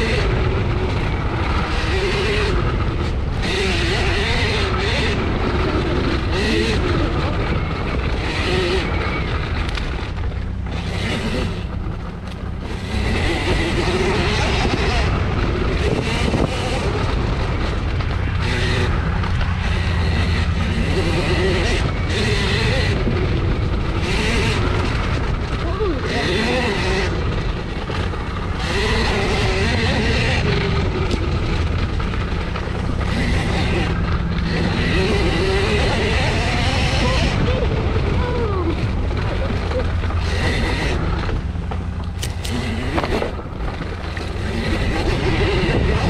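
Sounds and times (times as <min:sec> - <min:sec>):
electric motor whine: 0:00.0 - 0:46.0
tyres on dirt trail: 0:00.0 - 0:46.0
wind noise on microphone: 0:00.0 - 0:46.0.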